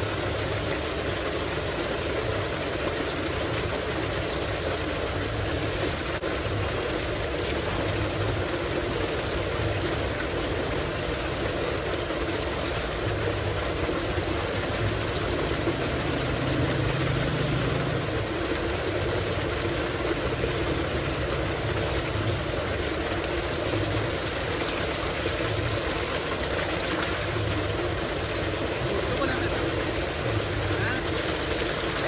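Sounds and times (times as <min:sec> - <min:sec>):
pump droning: 0:00.0 - 0:32.0
water gushing into a tank: 0:00.0 - 0:32.0.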